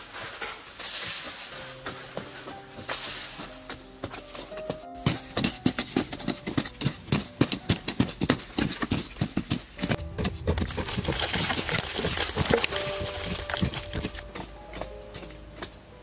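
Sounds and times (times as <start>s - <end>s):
loose soil scraping and rustling: 0.0s - 15.9s
digging tools chopping hard earth: 2.2s - 15.9s.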